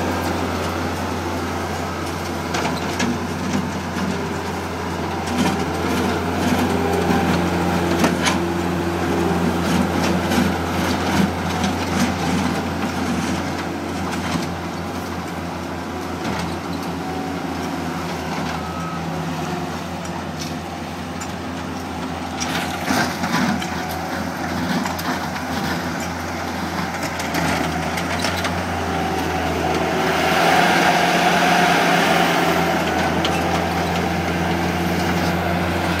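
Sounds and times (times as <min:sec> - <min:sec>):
loader engine running: 0:00.0 - 0:36.0.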